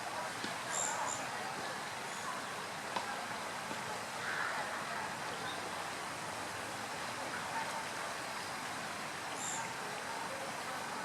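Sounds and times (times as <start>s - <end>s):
steady water or wind hiss: 0.0s - 11.0s.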